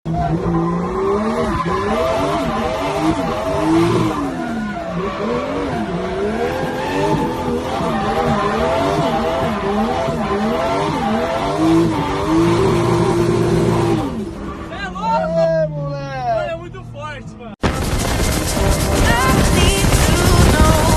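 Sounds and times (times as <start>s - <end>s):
car engine revving: 0.1s - 16.4s, 17.6s - 20.9s.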